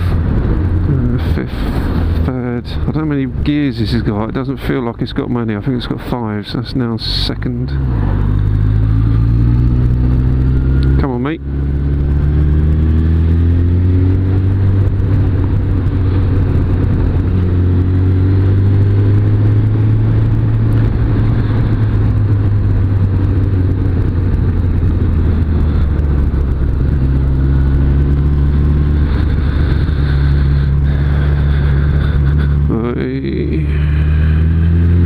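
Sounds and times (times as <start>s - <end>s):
low wind rumble: 0.0s - 35.0s
motorcycle engine accelerating: 0.0s - 35.0s.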